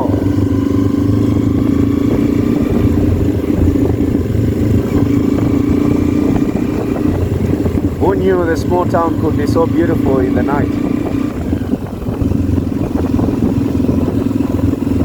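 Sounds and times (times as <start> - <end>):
motorcycle engine cruising: 0.0 - 15.0
road noise: 0.0 - 15.0.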